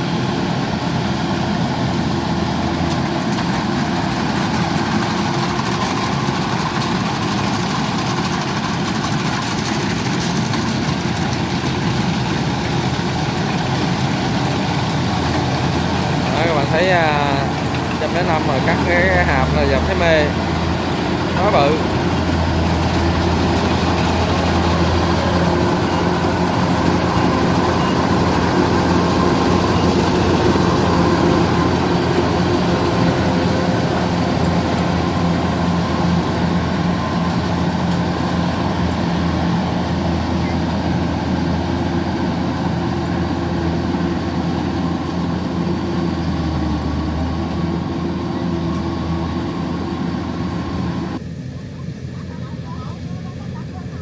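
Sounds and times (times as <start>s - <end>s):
combine harvester engine humming: 0.0s - 54.0s.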